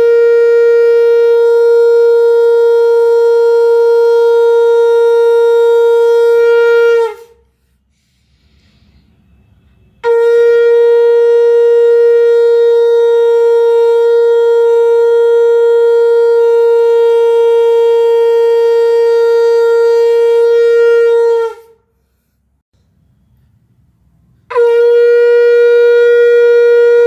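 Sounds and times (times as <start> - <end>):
conch shell blown: 0.0 - 22.3, 24.4 - 27.0.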